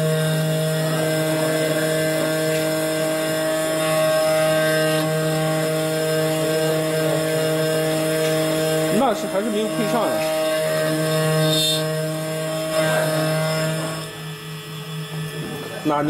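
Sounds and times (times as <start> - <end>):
key-cutting machine milling metal: 0.0 - 16.0
spindle motor humming: 0.0 - 16.0.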